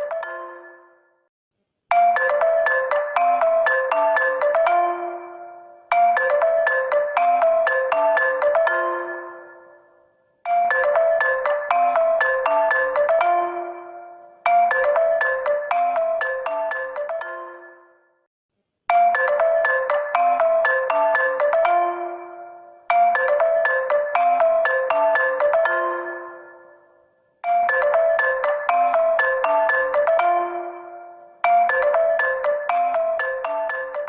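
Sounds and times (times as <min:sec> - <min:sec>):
phone ringtone melody: 0:00.0 - 0:01.3, 0:01.9 - 0:18.3, 0:18.9 - 0:34.0.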